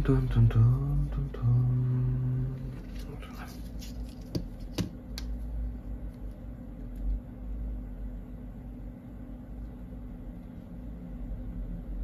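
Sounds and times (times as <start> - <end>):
room noise rumble and hum: 0.0 - 12.0.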